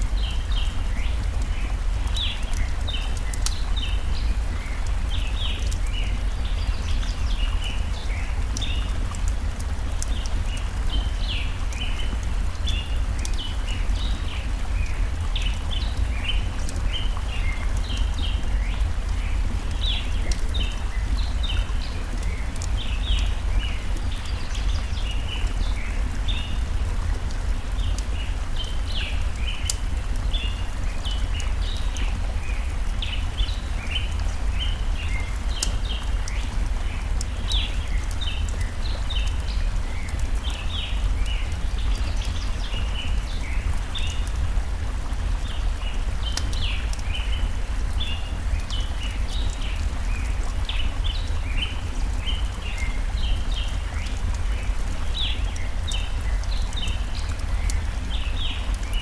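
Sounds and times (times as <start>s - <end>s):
campfire crackling: 0.0s - 59.0s
small birds chirping: 0.0s - 59.0s
stream rushing: 0.0s - 59.0s.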